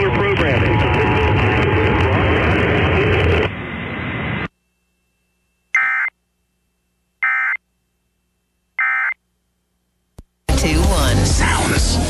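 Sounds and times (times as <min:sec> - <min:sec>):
hissy broadcast audio: 0:00.0 - 0:12.0.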